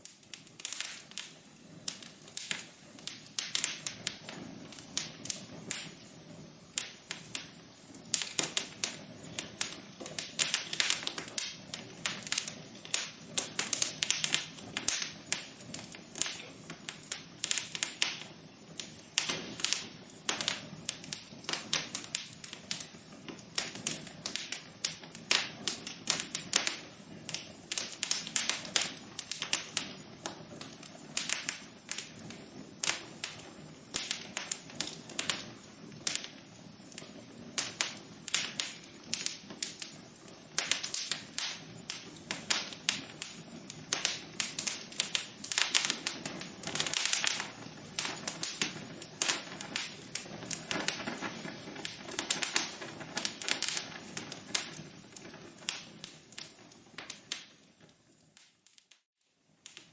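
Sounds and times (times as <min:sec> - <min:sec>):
low hiss of burning: 0:00.0 - 0:59.9
wood fire crackling: 0:00.0 - 0:59.9.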